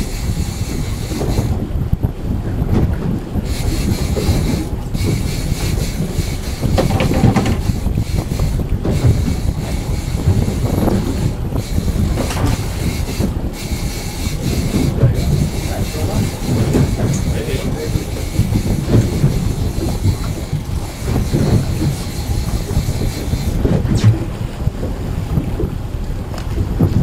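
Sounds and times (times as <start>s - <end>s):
boat and sea noise: 0.0s - 27.0s
wind buffeting microphone: 0.0s - 27.0s.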